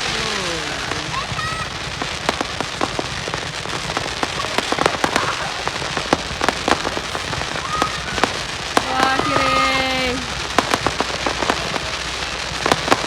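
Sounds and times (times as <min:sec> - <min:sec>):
fireworks bangs and cracks: 0:00.0 - 0:13.0
fireworks crackling hiss: 0:00.0 - 0:13.0.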